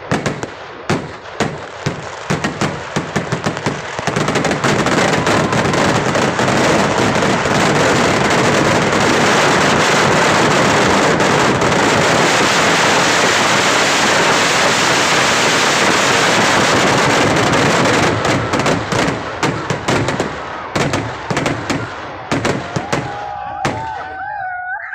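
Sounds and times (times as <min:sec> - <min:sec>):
single firework bangs: 0:00.0 - 0:24.0
firecracker explosions: 0:00.0 - 0:24.3.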